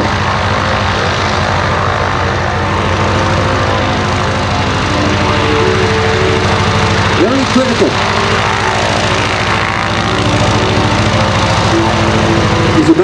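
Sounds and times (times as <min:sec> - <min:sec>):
propeller plane engine running: 0:00.0 - 0:13.0.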